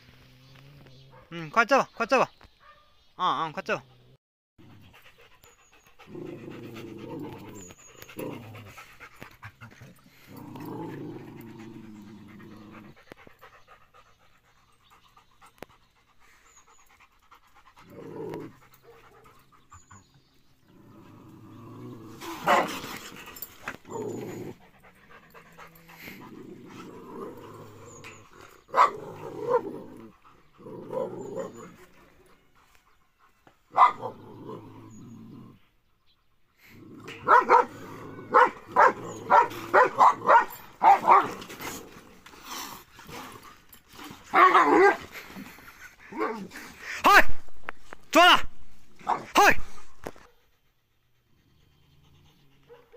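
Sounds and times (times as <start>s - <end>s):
animals growling: 0.0s - 1.3s, 3.8s - 47.0s, 48.8s - 52.9s.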